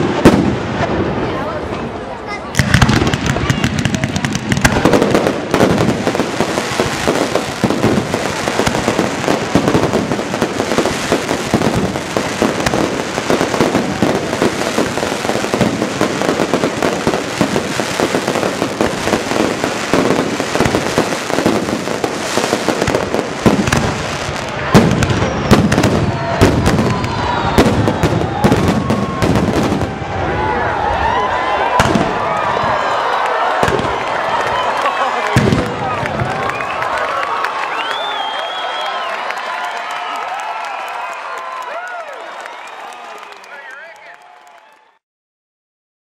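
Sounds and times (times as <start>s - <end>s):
fireworks bangs and crackling: 0.0s - 43.4s.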